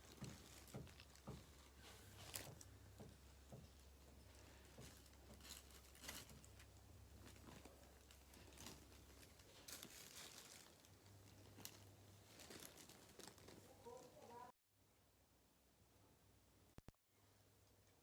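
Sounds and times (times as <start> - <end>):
faint rustling and crackling: 0.0 - 14.6.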